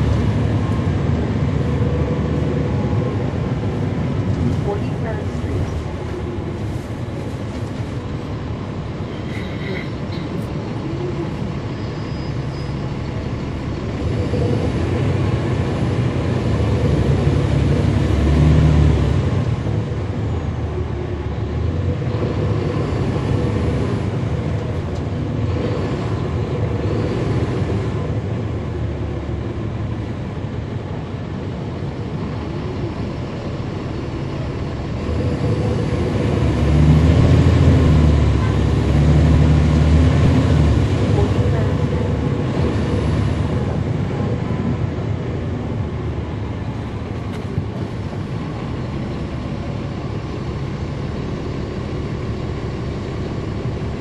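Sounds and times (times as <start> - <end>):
bus diesel engine running: 0.0 - 54.0
engine cooling fans: 0.0 - 54.0.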